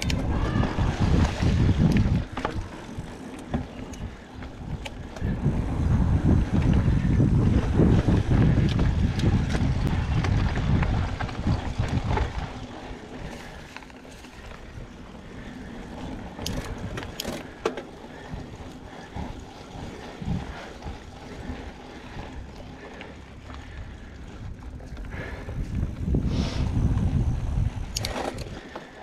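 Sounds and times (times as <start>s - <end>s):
wind buffeting: 0.0s - 13.7s, 14.4s - 29.0s
bike clicks and rattles: 0.0s - 29.0s
tyres rolling on dirt: 0.0s - 29.0s.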